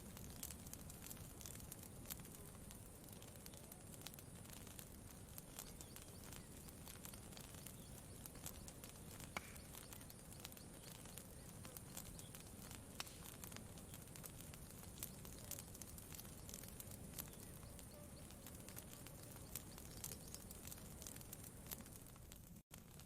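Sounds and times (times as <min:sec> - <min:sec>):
campfire crackling: 0:00.0 - 0:23.0
low steady background noise: 0:00.0 - 0:23.0.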